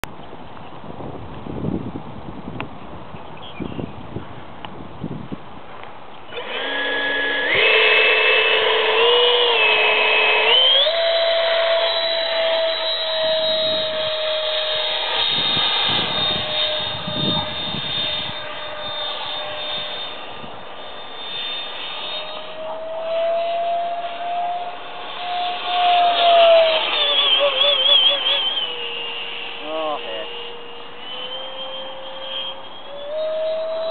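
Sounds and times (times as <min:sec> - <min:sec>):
electric ducted fan whine: 0:00.6 - 0:33.9.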